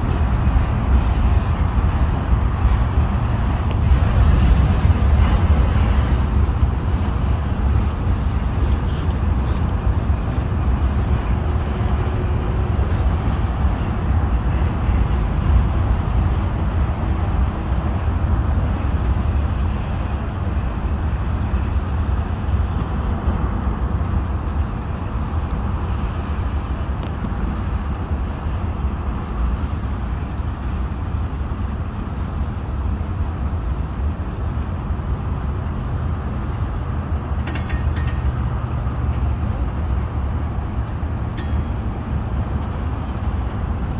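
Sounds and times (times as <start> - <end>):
train cars rumbling on bridge: 0.0 - 43.9.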